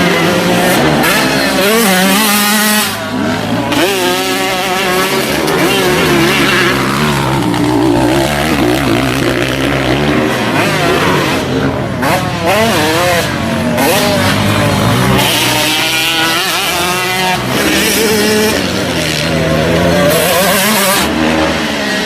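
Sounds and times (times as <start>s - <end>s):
racing motorcycles revving: 0.0s - 22.0s.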